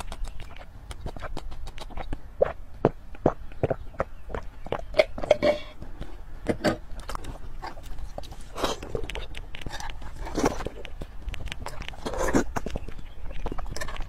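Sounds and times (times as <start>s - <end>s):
swallowing: 0.0s - 14.0s.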